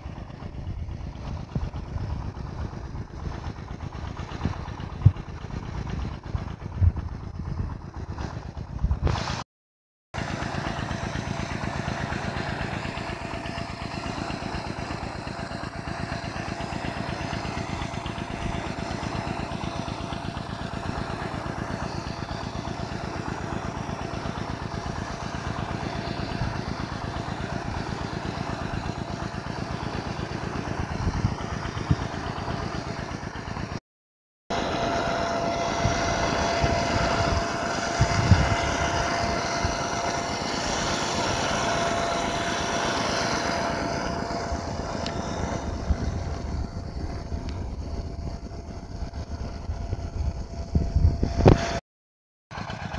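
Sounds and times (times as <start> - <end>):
pulsing water jet spraying: 0.0 - 9.4, 10.2 - 33.8, 34.5 - 51.8.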